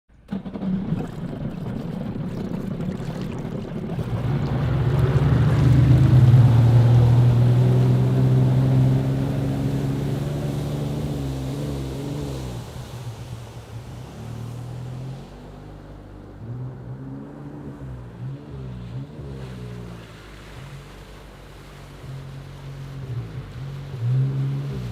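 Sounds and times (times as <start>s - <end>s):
jet ski engine: 0.1s - 24.9s
water noise: 0.1s - 24.9s.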